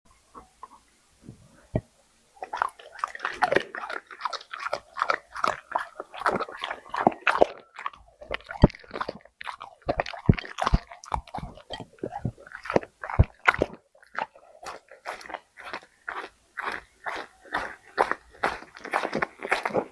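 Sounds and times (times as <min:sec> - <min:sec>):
dog chewing and crunching: 0:02.4 - 0:19.9.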